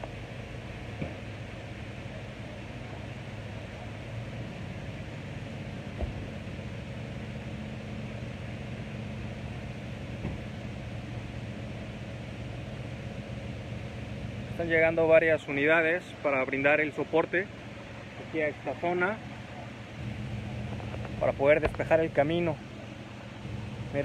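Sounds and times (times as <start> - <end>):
tyres hissing on wet asphalt: 0.0 - 24.0
vehicle engines humming: 0.0 - 24.0.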